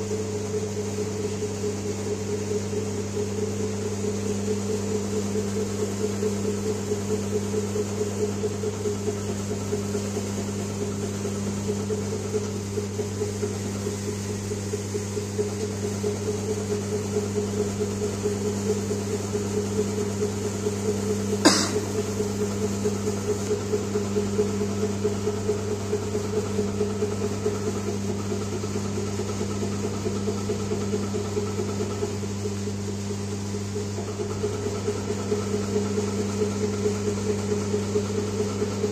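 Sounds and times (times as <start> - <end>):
hydraulic pump motor humming: 0.0 - 38.9.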